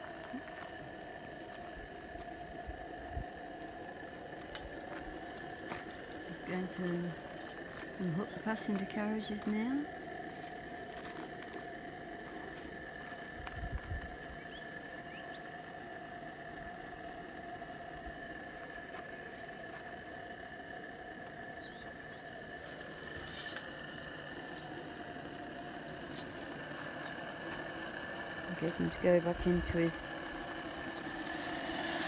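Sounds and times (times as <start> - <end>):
faint whine and hiss: 0.0 - 32.0.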